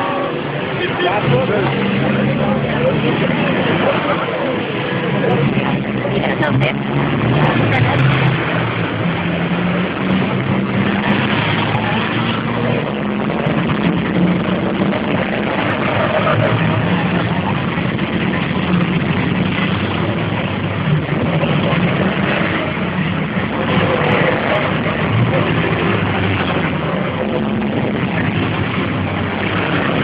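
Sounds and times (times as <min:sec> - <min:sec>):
diesel truck engines passing: 0:00.0 - 0:30.0.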